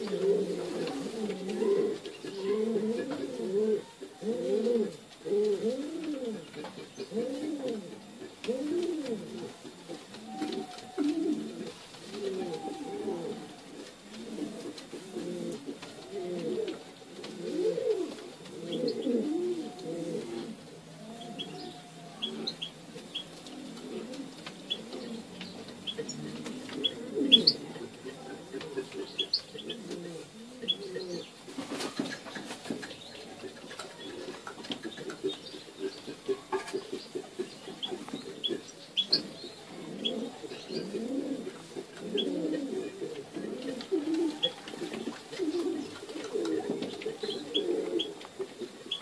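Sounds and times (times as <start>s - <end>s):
pigeons cooing: 0.0s - 49.0s.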